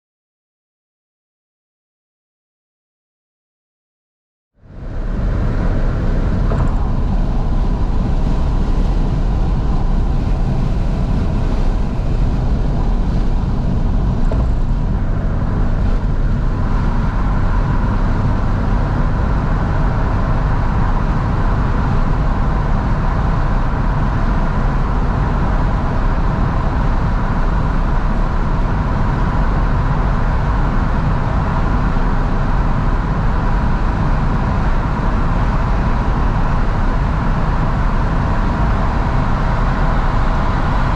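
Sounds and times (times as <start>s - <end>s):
car engine: 4.6s - 40.9s
road noise: 4.6s - 40.9s
wind noise: 4.6s - 40.9s
steady hum: 4.7s - 40.9s.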